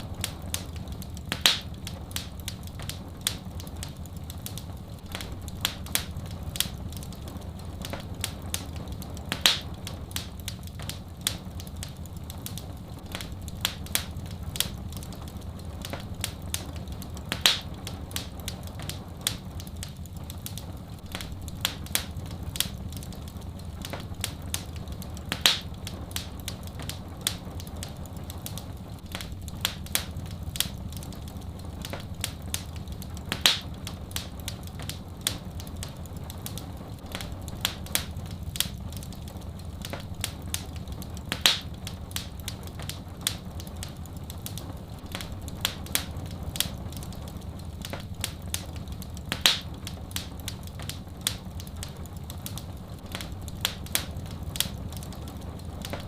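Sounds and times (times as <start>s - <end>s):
sharp fire pops: 0.0s - 56.0s
wood fire crackling: 0.0s - 56.0s.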